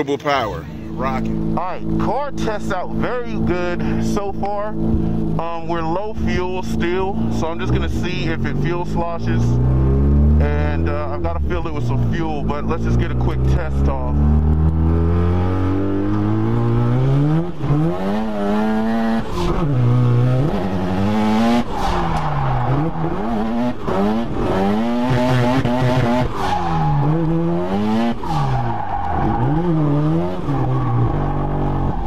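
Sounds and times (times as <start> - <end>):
rotary engine revving: 1.0 - 32.0.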